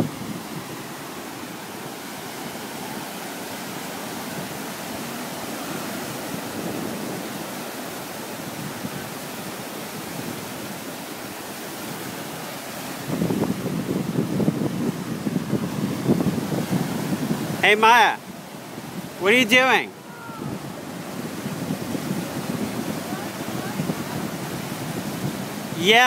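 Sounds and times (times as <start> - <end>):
wind buffeting microphone: 0.0 - 17.6, 18.2 - 19.2, 19.8 - 25.9
surf breaking on rocky shore: 0.0 - 26.0.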